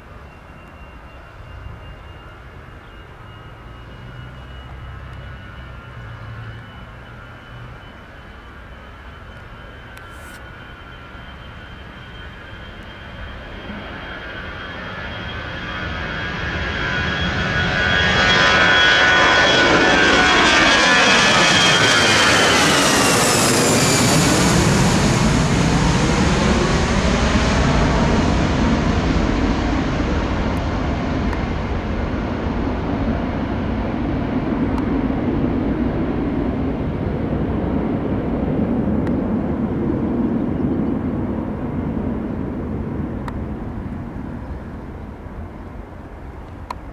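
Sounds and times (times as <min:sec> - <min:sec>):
jet engines passing by: 0:00.0 - 0:46.9.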